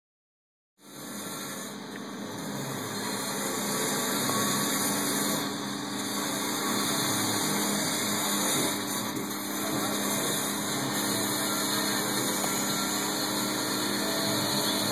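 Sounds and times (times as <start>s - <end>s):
power tool grinding mortar: 0.9s - 14.9s.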